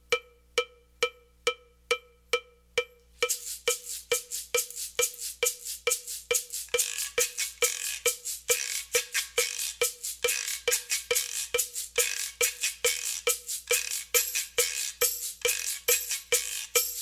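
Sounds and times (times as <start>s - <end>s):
cowbell struck on a beat: 0.0s - 17.0s
hissing cymbal pattern: 3.2s - 17.0s.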